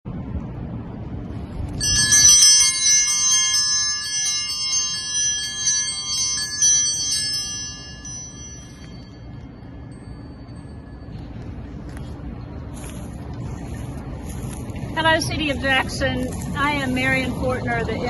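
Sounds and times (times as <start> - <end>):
low rumble: 0.1 - 18.0.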